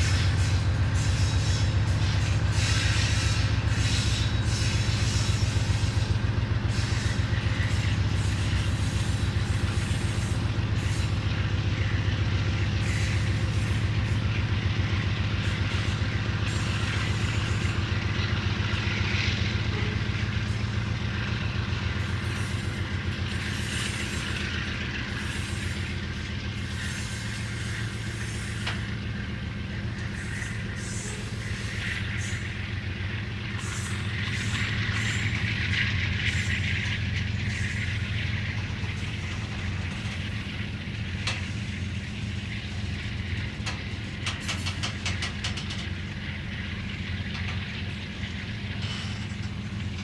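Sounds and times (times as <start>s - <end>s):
diesel locomotive engines droning: 0.0s - 50.0s
freight cars rolling on rails: 0.0s - 50.0s.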